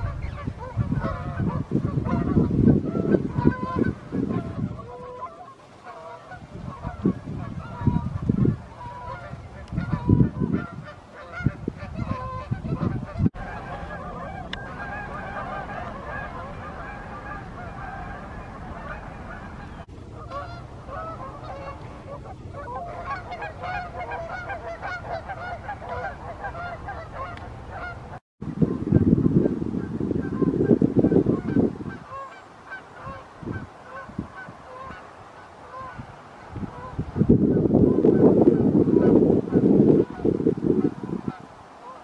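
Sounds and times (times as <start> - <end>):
geese honking: 0.0 - 29.1, 29.8 - 42.0.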